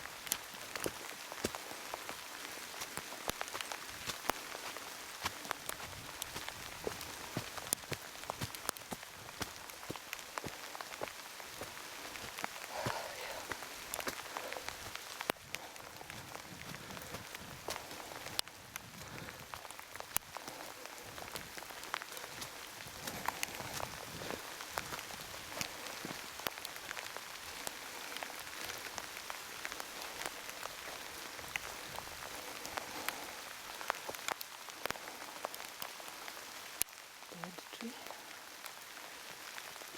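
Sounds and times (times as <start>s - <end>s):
heavy rain falling: 0.0s - 39.9s
raindrops tapping close by: 0.0s - 39.9s.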